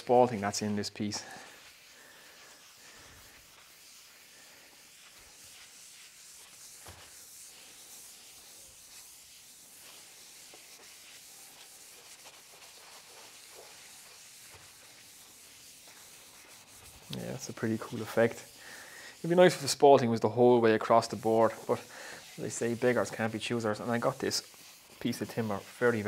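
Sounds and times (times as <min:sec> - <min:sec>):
cloth rubbing on wood: 0:00.0 - 0:26.0.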